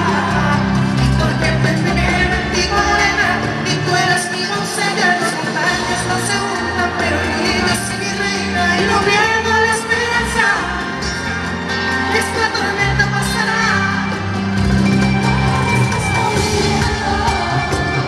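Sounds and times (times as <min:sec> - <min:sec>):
pop song with singing: 0:00.0 - 0:18.0.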